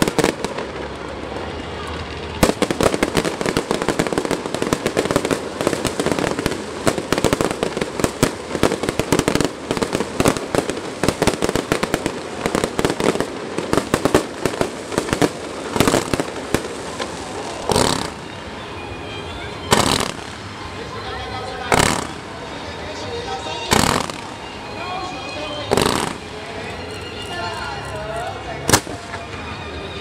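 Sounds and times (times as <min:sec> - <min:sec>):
fireworks crackling bangs and pops: 0:00.0 - 0:18.9, 0:19.6 - 0:29.5.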